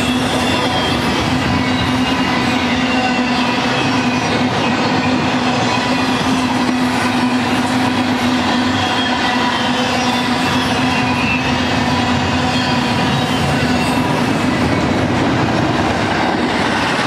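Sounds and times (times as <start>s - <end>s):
steel wheels rumbling on rails: 0.0s - 17.0s.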